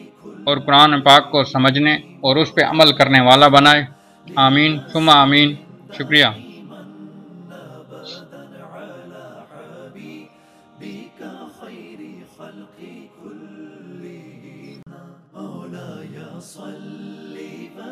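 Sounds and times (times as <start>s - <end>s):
devotional vocal chanting: 0.0s - 17.9s.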